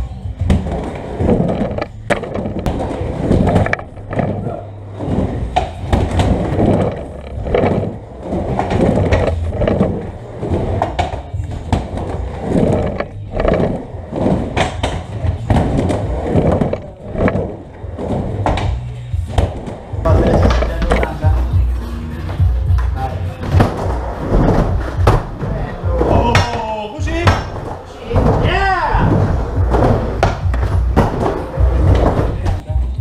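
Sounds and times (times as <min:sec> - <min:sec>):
skateboard wheels rolling on wood: 0:00.0 - 0:26.8, 0:27.4 - 0:32.6.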